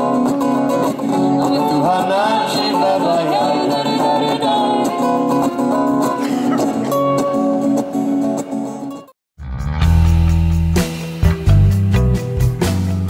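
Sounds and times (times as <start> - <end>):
song with plucked guitar: 0.0 - 13.0.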